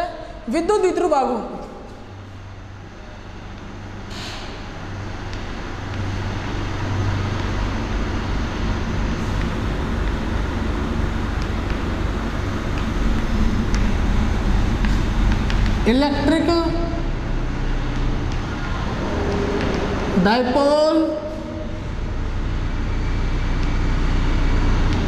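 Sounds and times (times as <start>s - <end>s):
vehicle engine rumbling: 1.6s - 25.0s.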